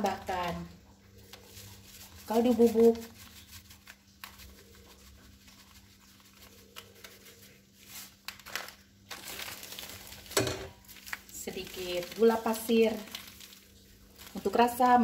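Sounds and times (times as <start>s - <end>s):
plastic sachet crinkling: 0.0s - 15.0s.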